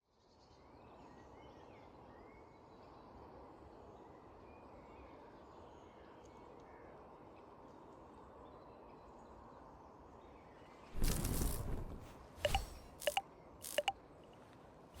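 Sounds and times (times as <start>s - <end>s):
low rush of background noise: 0.2s - 12.4s.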